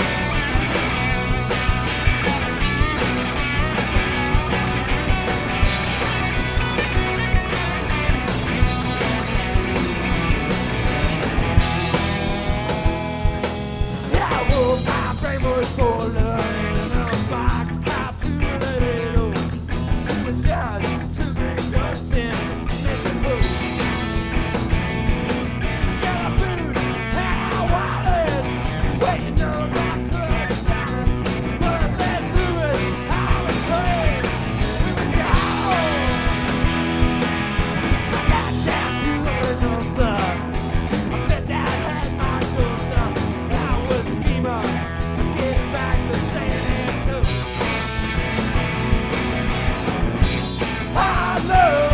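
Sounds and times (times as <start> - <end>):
bass: 0.0 - 51.9
drums: 0.0 - 51.9
electric guitar lead: 0.0 - 51.9.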